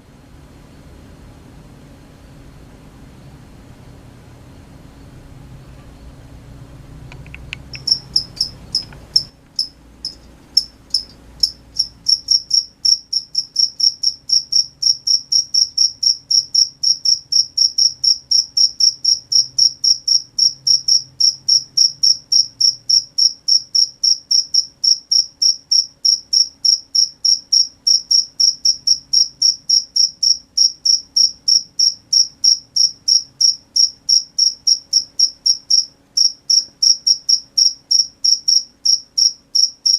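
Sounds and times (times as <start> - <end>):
cricket chirping: 7.3 - 39.9.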